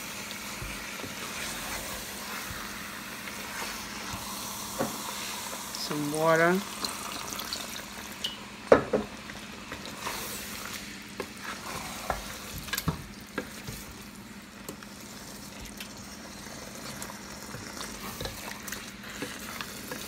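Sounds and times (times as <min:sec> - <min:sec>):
stew sizzling: 0:00.0 - 0:20.0.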